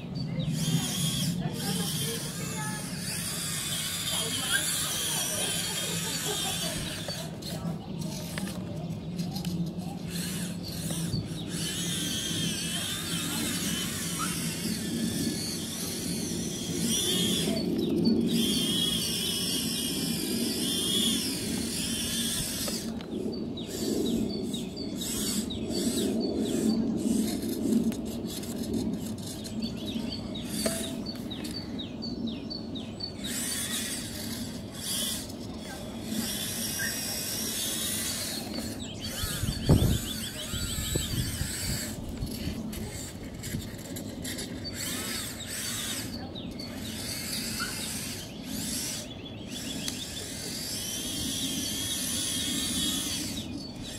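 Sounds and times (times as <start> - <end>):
small electric motors whining: 0.0 - 53.9.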